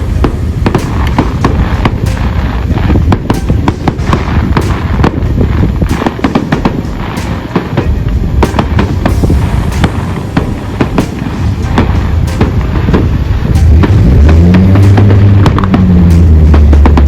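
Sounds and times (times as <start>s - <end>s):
low rumble: 0.0s - 7.1s, 7.7s - 17.0s
fireworks bangs and crackles: 0.0s - 17.0s.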